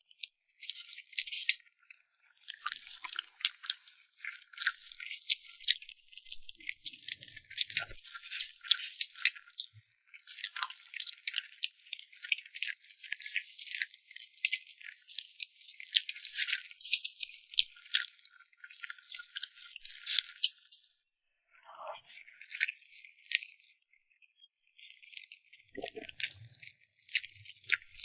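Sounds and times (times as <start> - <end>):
crunching of crisp food chewed: 0.6 - 20.7, 22.1 - 23.7, 24.8 - 28.0.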